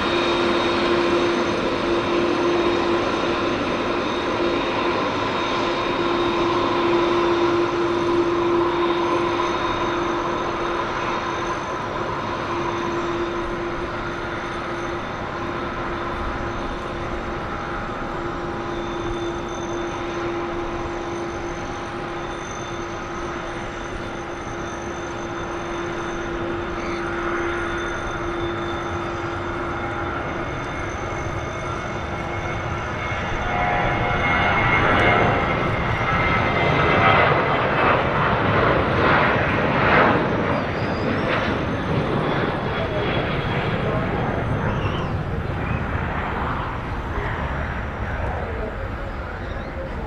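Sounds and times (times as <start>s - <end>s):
jet engines whining: 0.0s - 50.0s.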